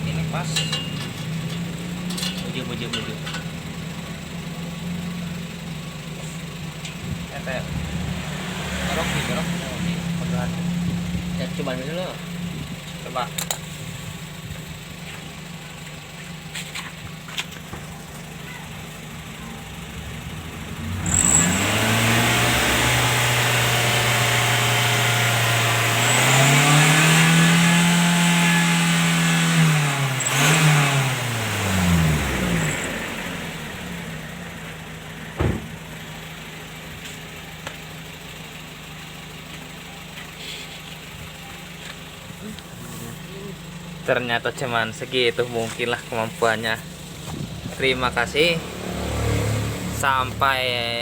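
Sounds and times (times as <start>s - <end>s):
engine revving and idling: 0.0s - 51.0s.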